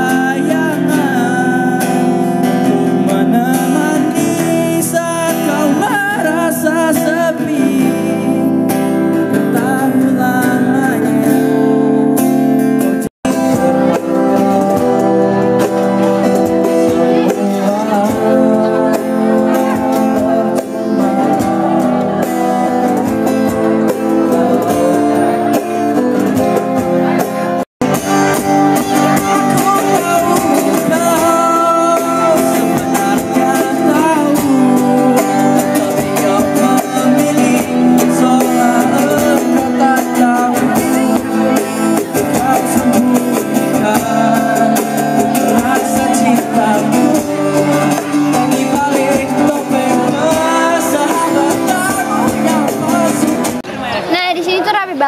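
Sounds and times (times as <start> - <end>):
person singing: 0.0 - 53.6
acoustic guitar: 0.0 - 55.0.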